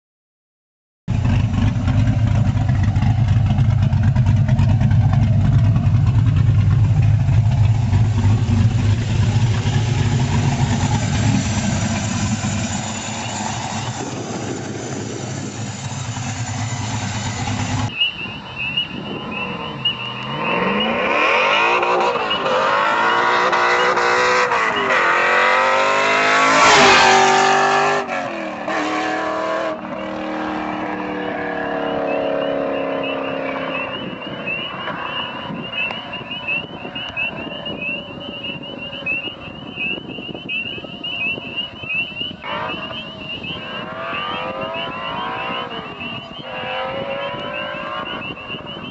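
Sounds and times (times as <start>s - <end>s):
car engine idling and accelerating: 1.1s - 48.9s.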